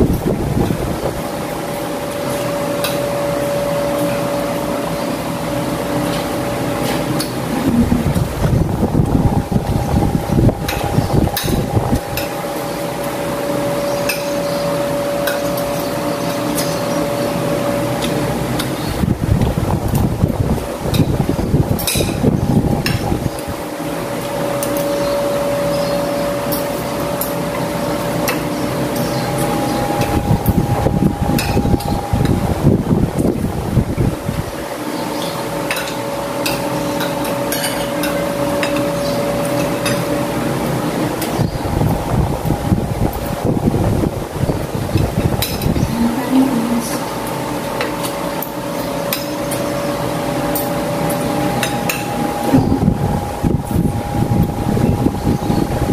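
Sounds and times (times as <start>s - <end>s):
background hum: 0.0s - 55.9s.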